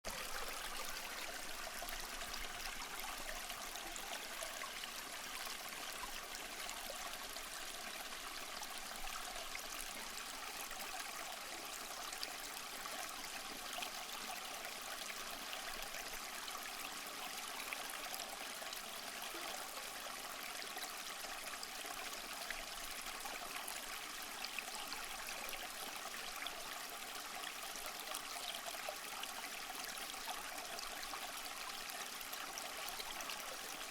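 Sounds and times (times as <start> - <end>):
stream flowing over stones: 0.1 - 33.9.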